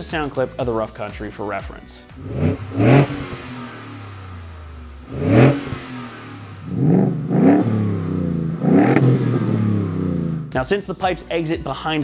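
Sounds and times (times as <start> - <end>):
car engine idling and revving: 0.0 - 10.7.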